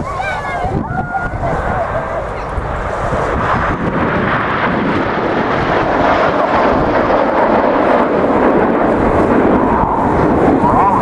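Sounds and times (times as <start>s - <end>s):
aircraft engine rushing: 0.0s - 11.0s.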